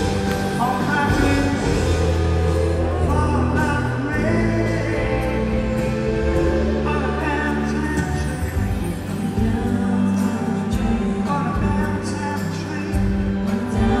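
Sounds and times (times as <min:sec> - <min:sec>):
live rock band playing: 0:00.0 - 0:14.0
man singing: 0:00.0 - 0:14.0.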